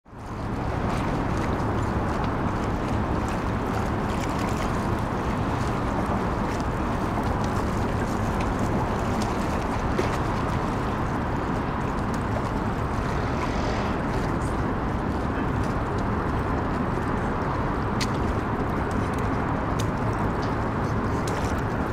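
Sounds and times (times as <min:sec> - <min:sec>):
ship engine rumble: 0:00.1 - 0:21.9
water wash: 0:00.1 - 0:21.9
wind noise: 0:00.1 - 0:21.9.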